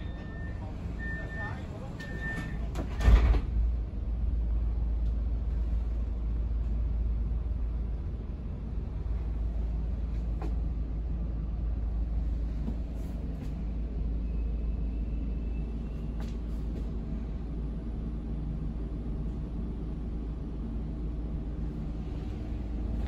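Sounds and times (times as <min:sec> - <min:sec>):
tram equipment hum: 0:00.0 - 0:23.0.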